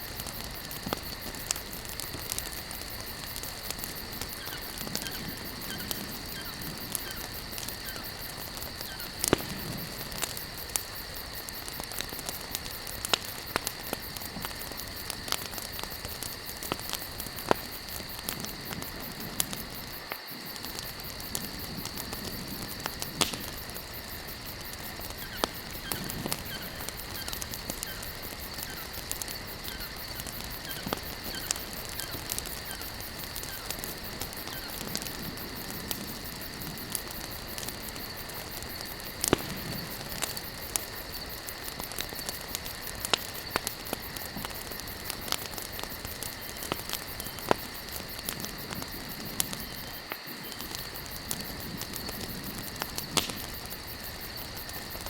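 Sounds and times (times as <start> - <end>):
campfire crackling: 0.0 - 55.0
fire snapping: 0.0 - 55.0.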